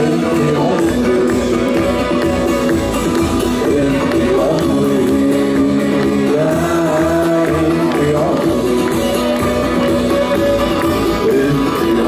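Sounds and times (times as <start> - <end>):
live band music over loudspeakers: 0.0 - 12.0
singer holding long notes: 0.0 - 12.0.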